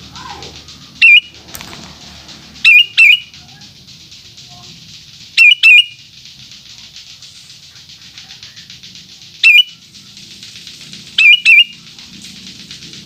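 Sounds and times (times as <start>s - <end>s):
faint fast pulsing chirr: 0.0s - 13.0s.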